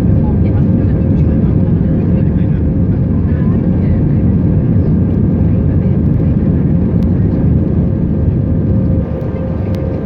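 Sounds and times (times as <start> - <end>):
engine fan tone: 0.0 - 10.0
jet engines deep rumble: 0.0 - 10.0.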